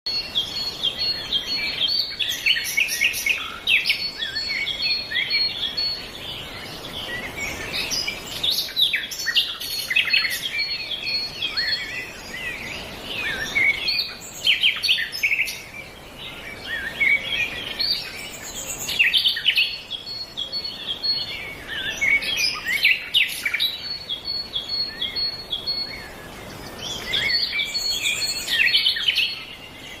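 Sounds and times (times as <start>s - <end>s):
birds chirping and trilling: 0.1s - 30.0s.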